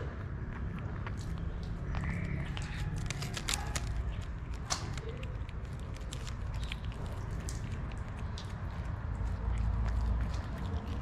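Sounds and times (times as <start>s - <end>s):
cat chewing wet food: 0.0s - 11.0s.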